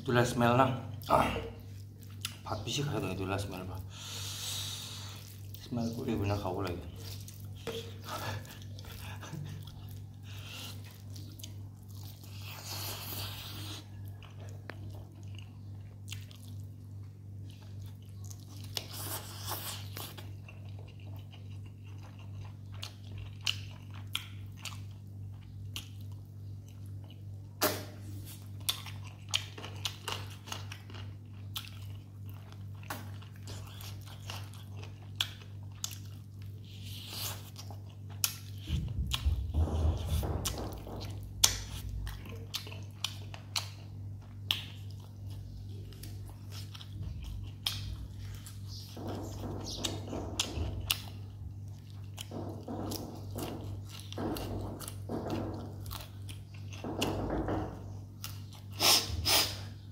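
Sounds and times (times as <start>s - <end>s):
person chewing food: 0.9s - 59.9s.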